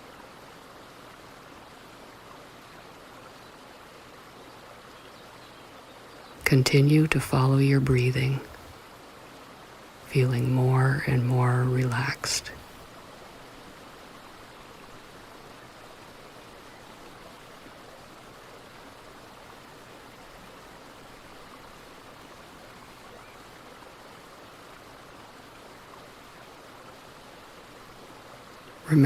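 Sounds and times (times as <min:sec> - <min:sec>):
brook water rushing: 0:00.0 - 0:29.0.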